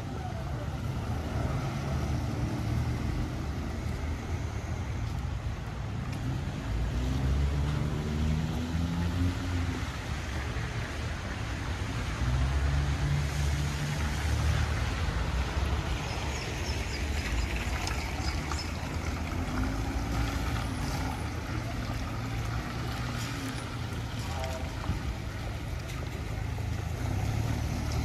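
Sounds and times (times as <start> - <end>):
tyres hissing on wet pavement: 0.1 - 28.0.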